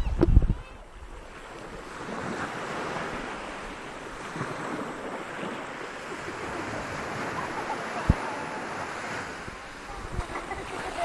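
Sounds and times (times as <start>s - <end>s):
sea waves breaking on beach: 0.0s - 11.0s.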